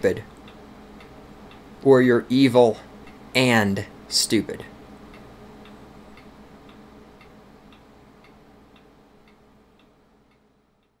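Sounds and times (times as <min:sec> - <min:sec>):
low hum: 0:00.0 - 0:11.0
steady ticking: 0:00.0 - 0:11.0.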